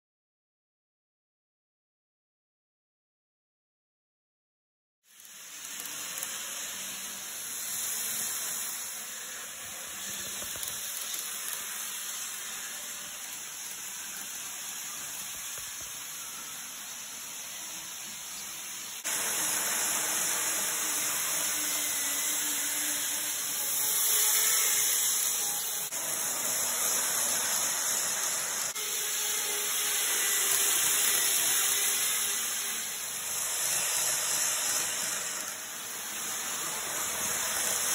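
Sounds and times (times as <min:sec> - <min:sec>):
model train wheels whirring on rail: 0:05.1 - 0:37.9.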